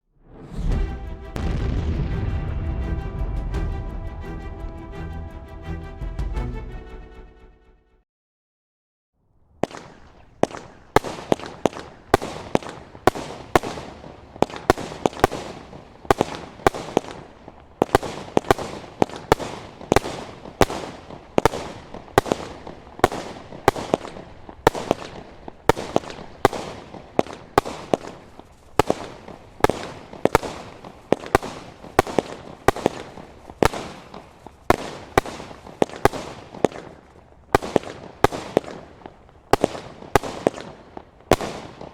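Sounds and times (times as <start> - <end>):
firework barrage shots and bangs: 0.2 - 3.9, 9.6 - 41.9.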